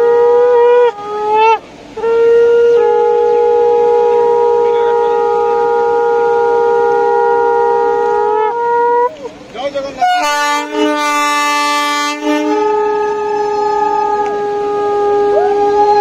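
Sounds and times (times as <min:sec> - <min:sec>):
locomotive air horn blasts: 0:00.0 - 0:16.0.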